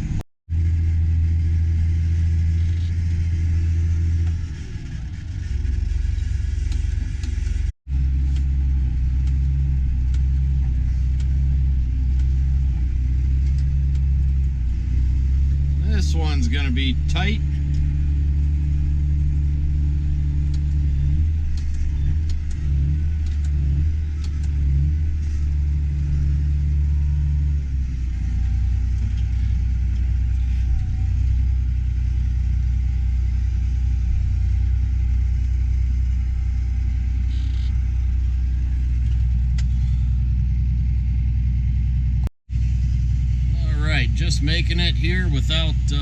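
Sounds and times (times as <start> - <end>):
tractor engine droning: 0.0 - 46.0.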